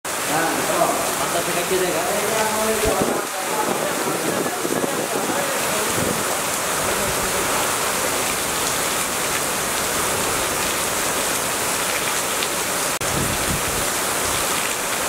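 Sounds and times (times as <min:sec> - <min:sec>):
heavy rain on asphalt road: 0:00.1 - 0:15.0.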